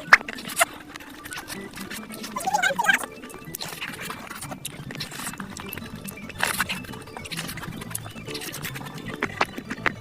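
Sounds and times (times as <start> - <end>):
chewing and mouth smacking: 0.0 - 10.0.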